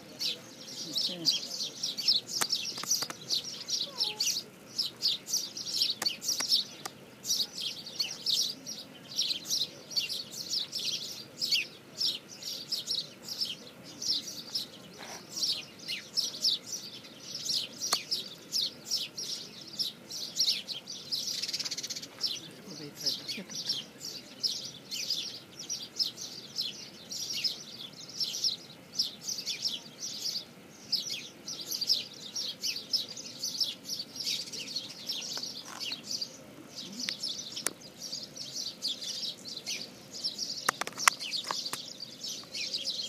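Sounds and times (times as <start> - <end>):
birds chirping in chorus: 0.0 - 43.0.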